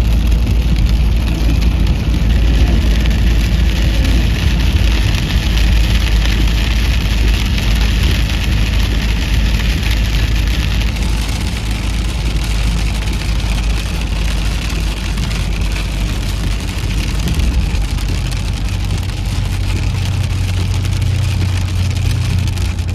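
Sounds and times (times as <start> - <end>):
car engine and road noise: 0.0 - 22.9
low hum: 0.0 - 22.9
raindrops hitting car: 0.0 - 22.9.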